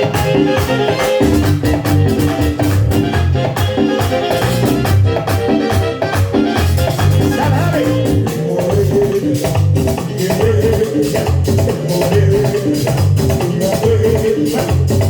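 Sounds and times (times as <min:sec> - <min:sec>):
merengue band music: 0:00.0 - 0:15.0.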